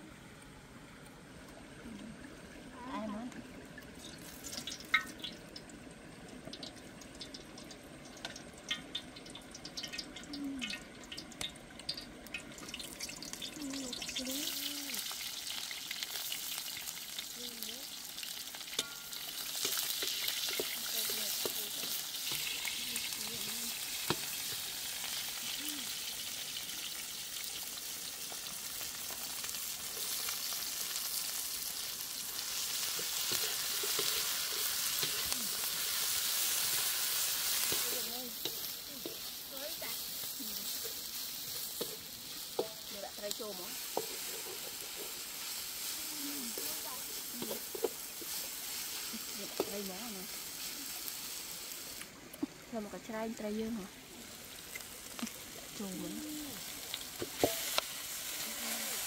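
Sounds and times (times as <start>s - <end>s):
food sizzling in hot oil: 2.7s - 59.0s.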